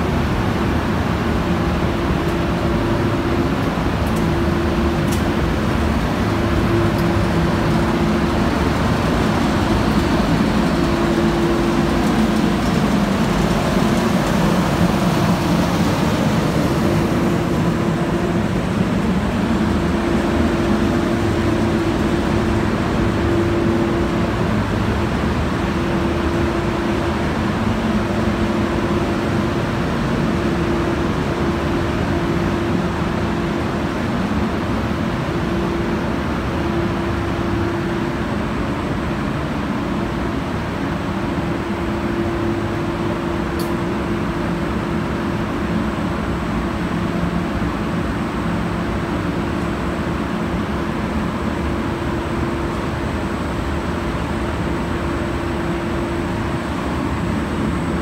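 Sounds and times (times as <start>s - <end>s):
continuous machinery rumble: 0.0s - 58.0s
machinery hum: 0.0s - 58.0s.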